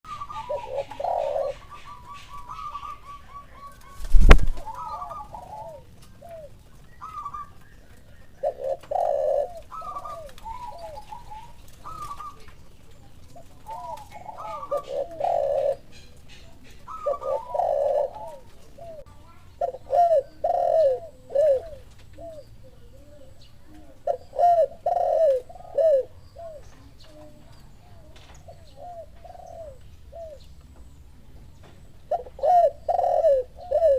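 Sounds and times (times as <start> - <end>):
doves cooing: 0.0 - 33.9.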